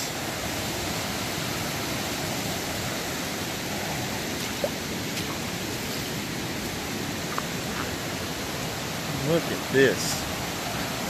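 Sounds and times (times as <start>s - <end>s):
floodwater rushing over ground: 0.0s - 11.0s.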